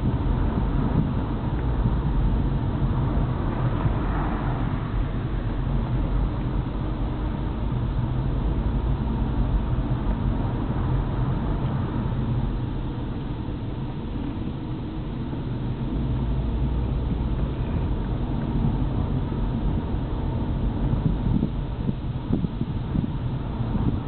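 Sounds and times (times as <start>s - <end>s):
car engine and tyre hum: 0.0s - 24.0s.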